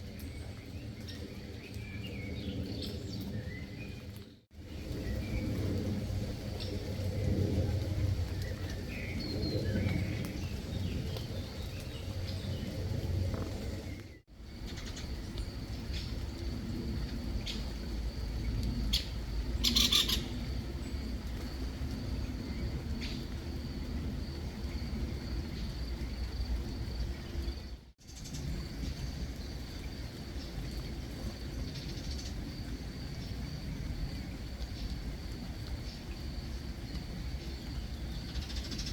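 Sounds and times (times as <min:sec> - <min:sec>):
garden birds chirping: 0:00.0 - 0:38.9
steady low rumble: 0:04.1 - 0:38.9.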